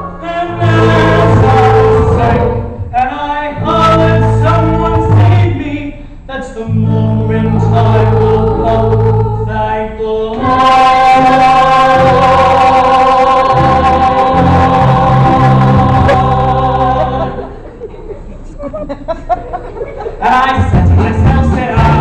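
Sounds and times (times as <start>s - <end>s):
chorus singing a gospel-style show tune: 0.0s - 5.8s, 6.4s - 17.7s, 20.2s - 22.0s.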